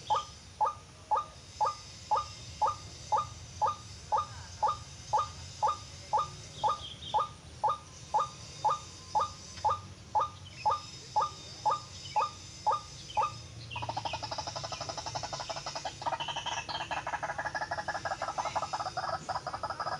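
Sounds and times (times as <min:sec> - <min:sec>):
fast pulsing bird chatter: 0:00.0 - 0:19.9.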